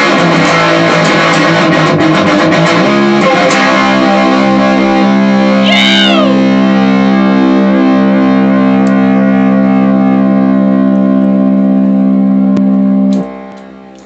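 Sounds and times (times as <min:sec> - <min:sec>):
electric guitar sustained chord: 0:00.0 - 0:05.6, 0:06.2 - 0:14.0.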